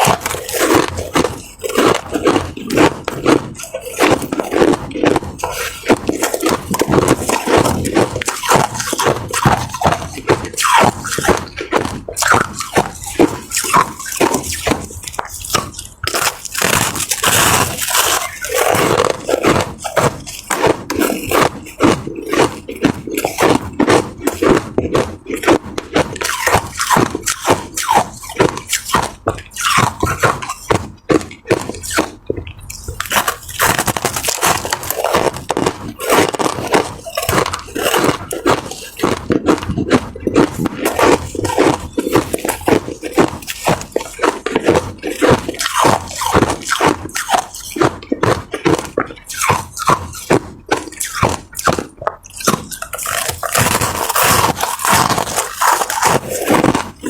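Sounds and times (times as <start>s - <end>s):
ice crunching in mouth: 0.0s - 57.0s.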